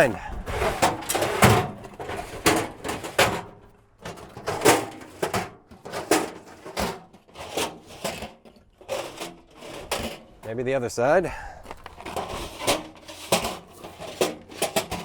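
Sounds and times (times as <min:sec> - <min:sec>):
metal drawers knocking and scraping: 0:00.0 - 0:10.6, 0:11.7 - 0:15.0.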